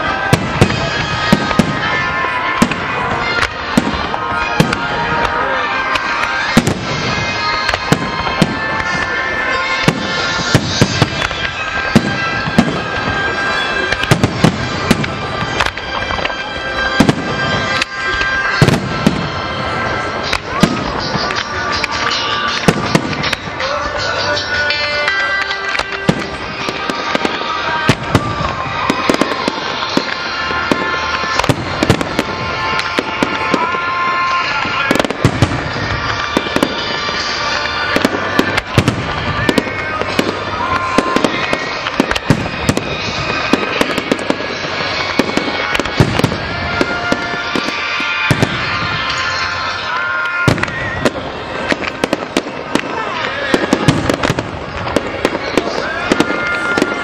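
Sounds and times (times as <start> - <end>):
firework shells bursting: 0.0 - 57.0
music playing: 0.0 - 57.0.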